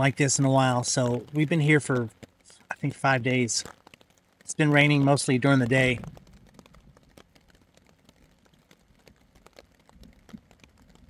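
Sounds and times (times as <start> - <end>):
rain dripping on a tarp: 0.0 - 11.0.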